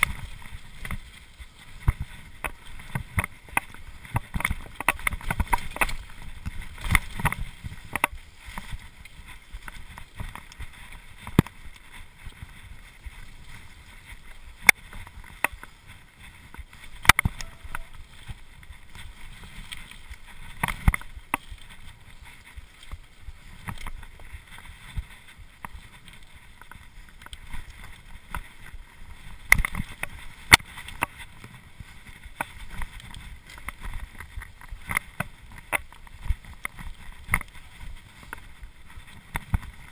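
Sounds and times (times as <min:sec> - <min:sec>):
bike knocking and rattling: 0:00.0 - 0:39.9
wind on microphone: 0:00.0 - 0:39.9.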